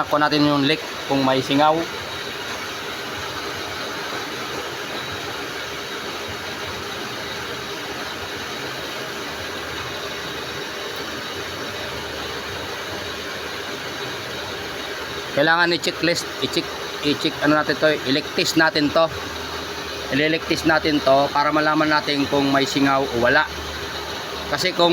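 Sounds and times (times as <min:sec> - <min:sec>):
electric water pump running: 0:00.0 - 0:24.9.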